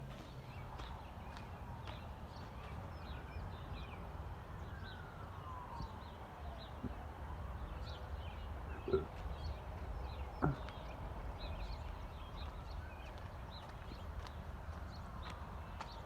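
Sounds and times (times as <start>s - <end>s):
small birds chirping: 0.0s - 16.0s
distant siren wailing: 0.6s - 16.0s.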